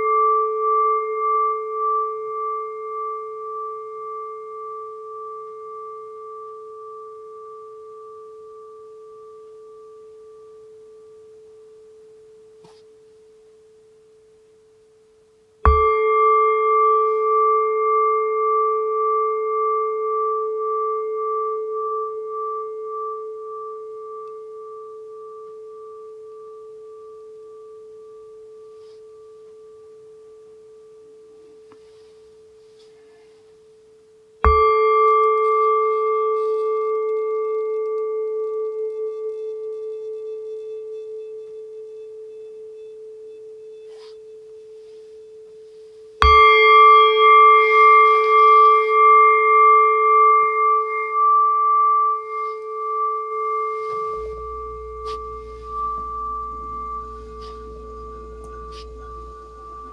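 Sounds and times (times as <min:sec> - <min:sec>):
singing bowl ringing: 0:00.0 - 0:14.1, 0:15.6 - 0:33.0, 0:33.6 - 0:59.9.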